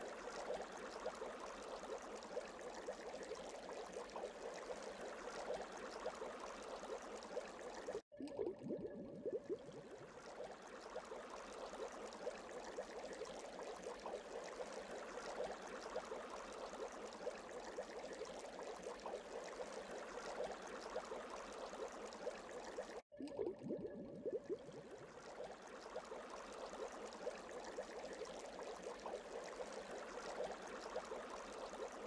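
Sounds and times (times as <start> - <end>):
water bubbling and gurgling: 0.0 - 32.0.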